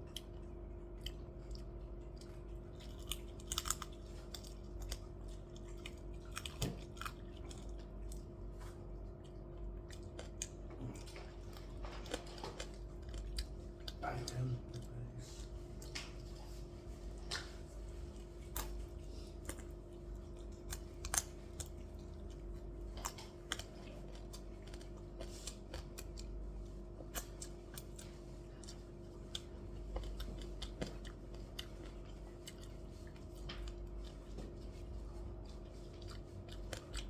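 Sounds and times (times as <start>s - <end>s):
crunchy food being bitten: 0.0s - 37.0s
steady low hum: 0.0s - 37.0s.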